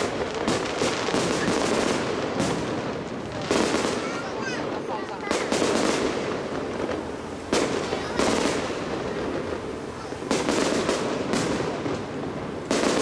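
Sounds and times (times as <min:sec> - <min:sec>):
crackling fizz of fireworks: 0:00.0 - 0:13.0
fireworks bursting: 0:00.0 - 0:13.0.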